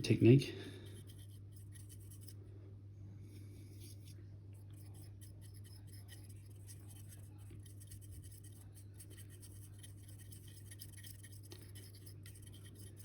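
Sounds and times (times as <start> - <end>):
steady low hum: 0.0 - 13.0
paintbrush scratching: 0.8 - 2.4, 3.6 - 13.0.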